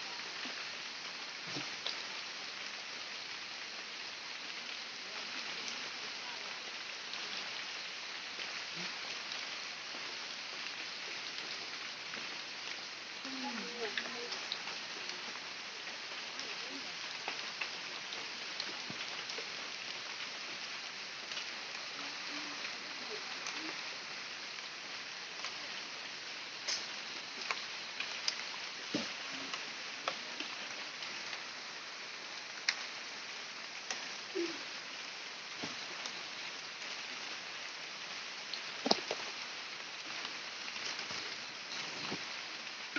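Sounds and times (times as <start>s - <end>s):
steady rain: 0.0s - 42.9s.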